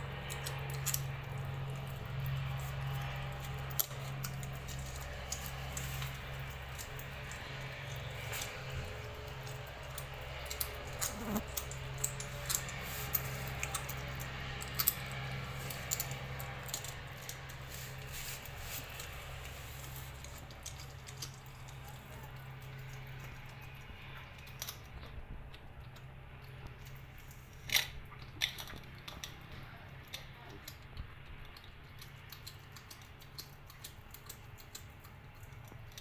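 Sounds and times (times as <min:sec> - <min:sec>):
kitten chewing noisily: 0:00.0 - 0:36.0.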